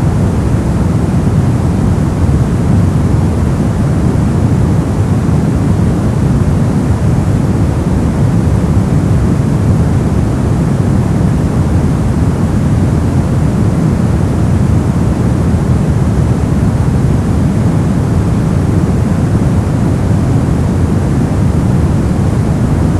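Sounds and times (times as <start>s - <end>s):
pink noise hiss: 0.0s - 22.9s.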